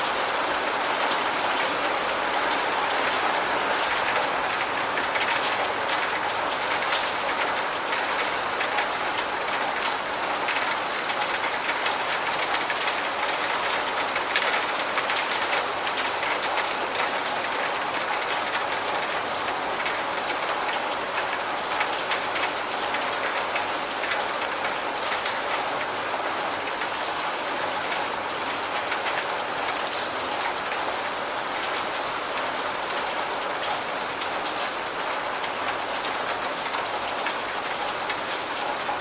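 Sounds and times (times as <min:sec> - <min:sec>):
close raindrops striking: 0:00.0 - 0:39.0
steady rain hiss: 0:00.0 - 0:39.0.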